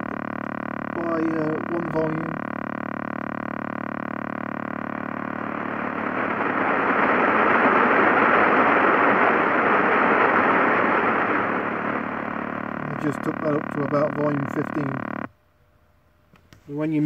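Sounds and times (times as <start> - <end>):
electronic whine from speaker: 0.0 - 15.4
radio static hiss: 0.0 - 15.4, 16.7 - 17.0.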